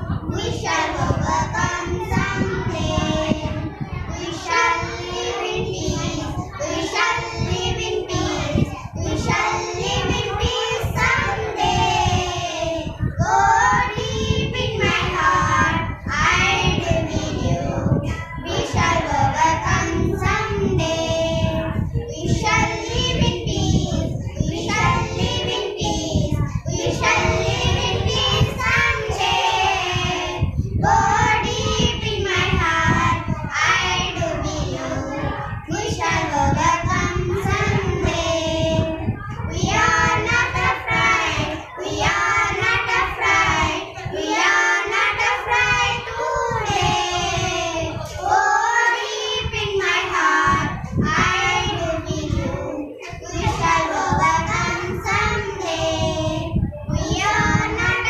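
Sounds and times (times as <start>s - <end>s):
girls singing in unison: 0.0s - 58.0s.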